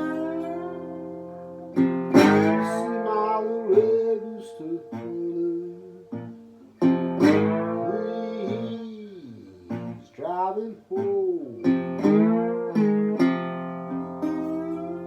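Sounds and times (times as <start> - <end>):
acoustic guitar blues playing: 0.0 - 15.0.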